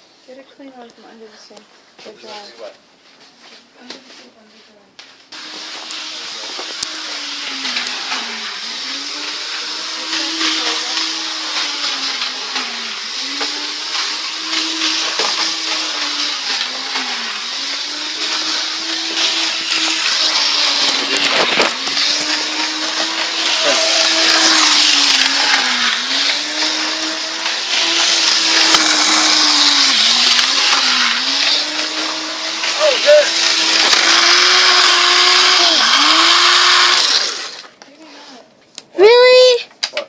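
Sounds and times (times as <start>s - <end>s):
model train motor whirring: 5.3s - 38.4s.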